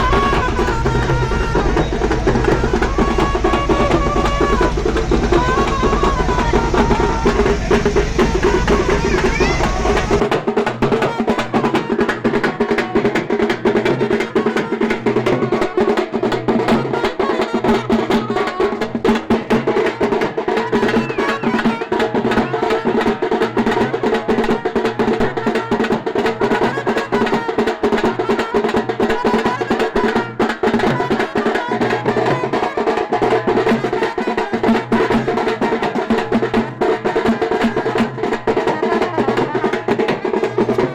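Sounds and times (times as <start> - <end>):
drums playing a fast beat: 0.0 - 40.9
music: 0.0 - 40.9.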